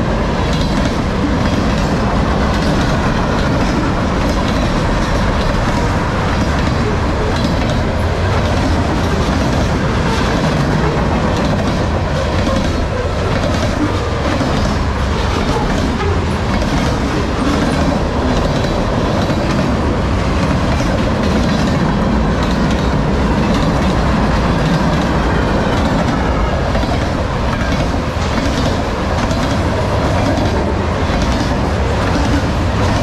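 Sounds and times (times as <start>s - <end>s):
steel wheels rumbling on rail: 0.0s - 33.0s
wheels clacking over rail joints: 0.0s - 33.0s.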